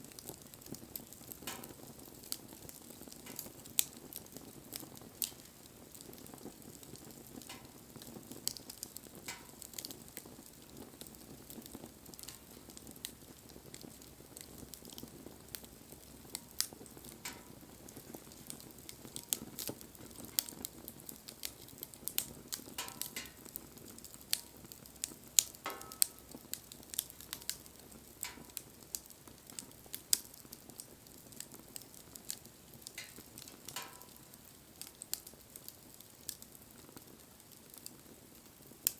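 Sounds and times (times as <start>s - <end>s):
sharp pops of fire: 0.0s - 38.9s
soft hiss of burning: 0.0s - 38.9s
wood bonfire crackling: 0.0s - 38.9s.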